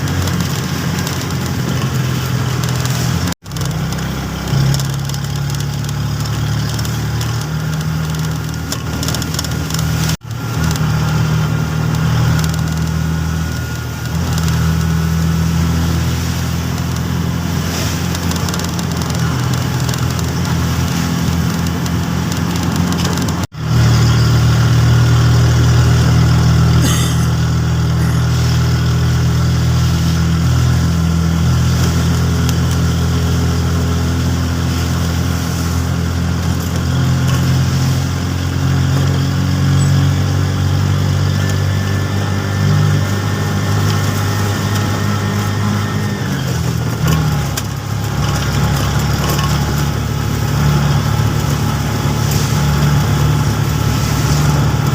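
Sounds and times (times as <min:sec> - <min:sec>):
engine running steadily: 0:00.0 - 0:54.9.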